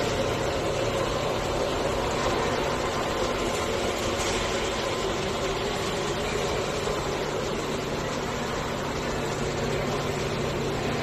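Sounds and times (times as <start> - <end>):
factory machinery drone: 0.0 - 11.0.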